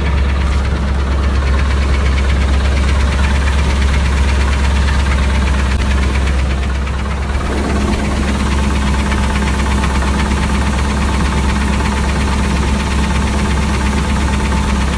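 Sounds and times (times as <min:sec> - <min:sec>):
car engine idling: 0:00.0 - 0:14.9
engine knocking or ticking: 0:00.0 - 0:14.9.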